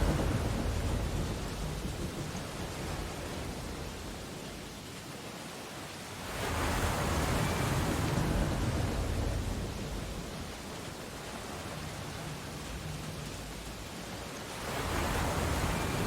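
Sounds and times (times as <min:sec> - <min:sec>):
hiss of surf: 0:00.0 - 0:16.0
ocean waves breaking: 0:00.0 - 0:16.0.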